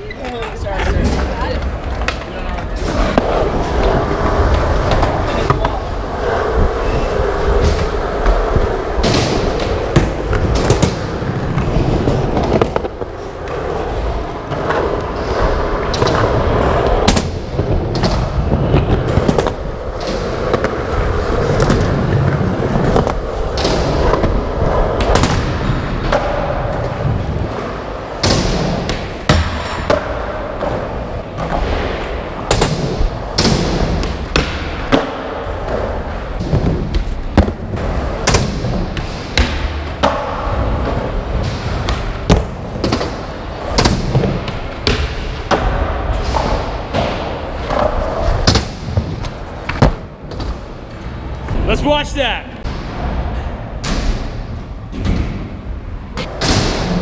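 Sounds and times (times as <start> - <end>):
skateboard wheels rolling: 0.0 - 51.7, 52.6 - 57.0.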